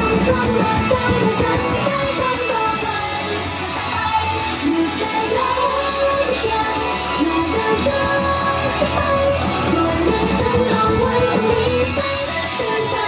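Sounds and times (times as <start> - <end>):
loud pop-rock backing track: 0.0 - 13.0
women singing into microphones: 0.0 - 13.0.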